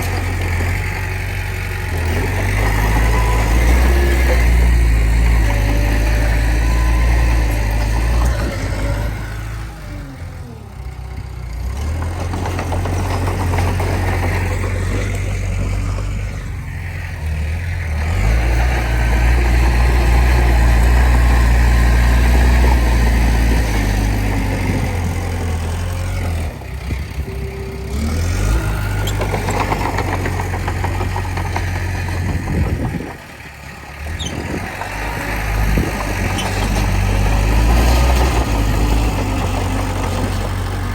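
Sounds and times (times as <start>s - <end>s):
heavy diesel machinery engine: 0.0s - 40.9s.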